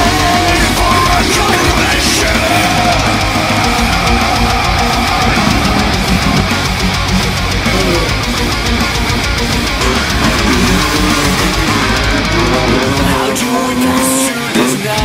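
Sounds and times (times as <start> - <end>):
heavy rock music with electric guitar: 0.0 - 15.0.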